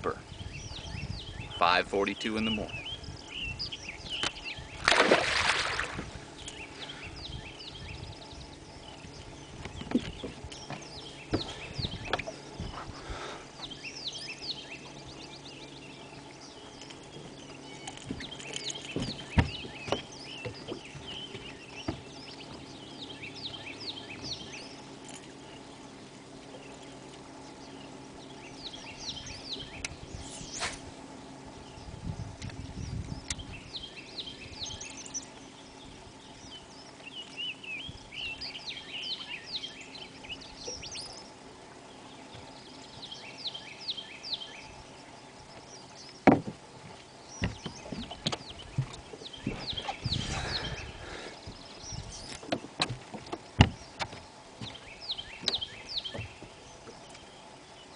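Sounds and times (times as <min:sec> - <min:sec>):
birds singing: 0:00.0 - 0:57.9
steady low hum: 0:00.0 - 0:57.9.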